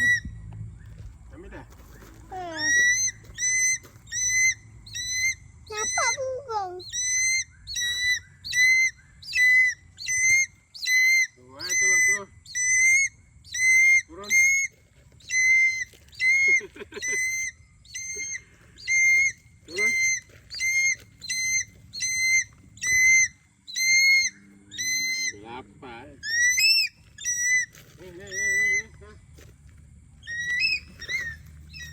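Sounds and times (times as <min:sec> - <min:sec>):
hawk-eagle high whistles: 0:00.0 - 0:00.4, 0:01.9 - 0:06.3, 0:06.9 - 0:25.5, 0:26.2 - 0:29.0, 0:30.2 - 0:31.9.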